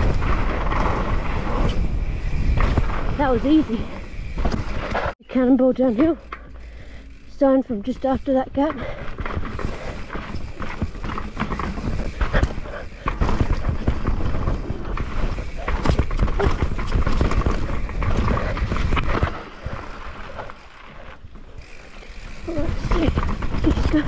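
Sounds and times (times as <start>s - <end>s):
bike clattering over bumps: 0.0s - 5.2s, 5.8s - 24.0s
bike tyres crunching over dirt: 0.0s - 24.0s.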